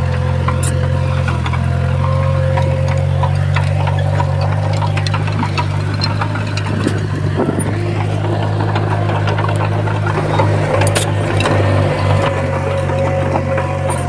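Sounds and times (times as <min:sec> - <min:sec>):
bulldozer diesel engine drone: 0:00.0 - 0:14.0
metallic clicks and clanks: 0:00.3 - 0:14.0.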